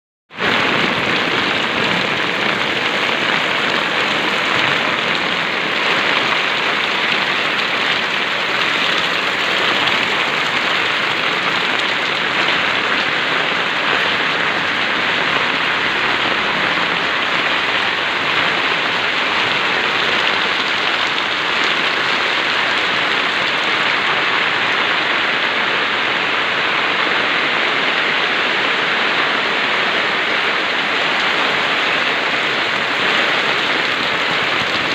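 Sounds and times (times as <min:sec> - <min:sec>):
heavy rain pouring: 0:00.3 - 0:34.9.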